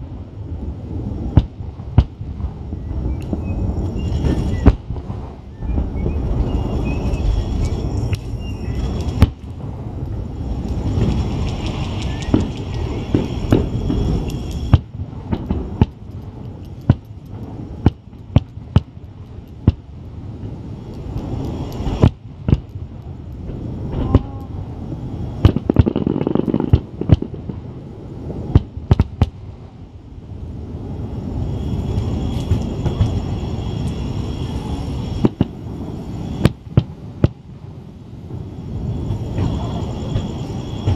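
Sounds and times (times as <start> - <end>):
low rumble of echoing booms: 0.0 - 40.9
firework shells bursting: 1.2 - 27.8, 28.4 - 29.4, 31.8 - 37.8.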